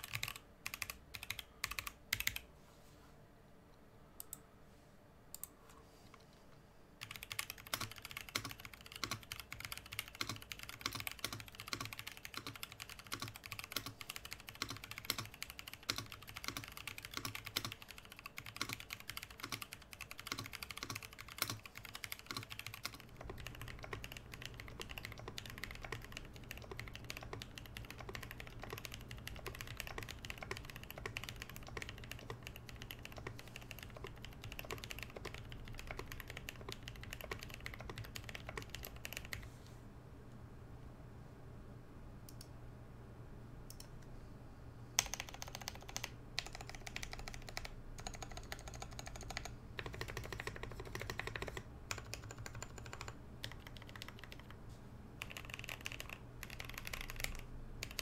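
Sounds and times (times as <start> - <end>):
fast mechanical keyboard typing: 0.0 - 2.4, 7.0 - 39.4, 45.0 - 54.6, 55.2 - 58.0.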